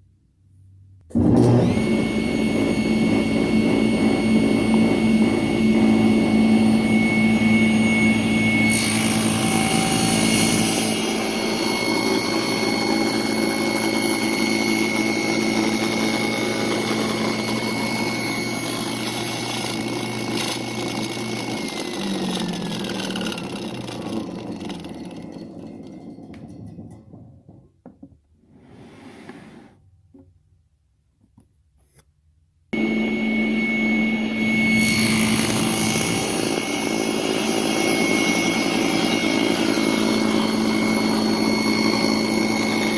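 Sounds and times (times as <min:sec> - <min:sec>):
power tool motor whining: 0:01.1 - 0:27.0, 0:32.8 - 0:42.9.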